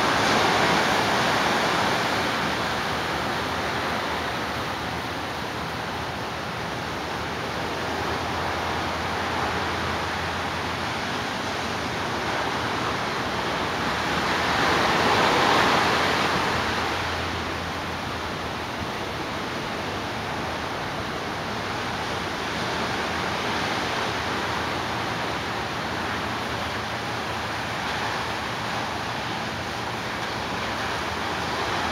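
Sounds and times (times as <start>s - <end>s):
surf breaking on beach: 0.0s - 31.9s.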